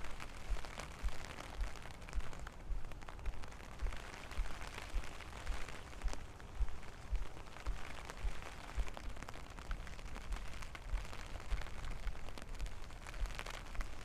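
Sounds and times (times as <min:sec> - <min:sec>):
raindrops ticking: 0:00.0 - 0:14.0.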